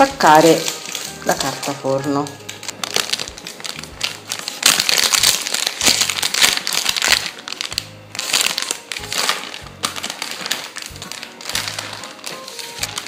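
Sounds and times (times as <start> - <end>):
background music: 0.0 - 13.0
baking paper crinkling: 0.0 - 13.0.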